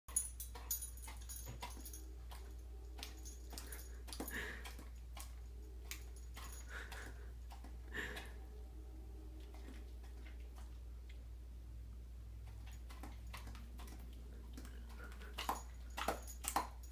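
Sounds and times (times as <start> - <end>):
dog licking and smacking: 0.3 - 8.4, 9.4 - 11.3, 12.3 - 16.9.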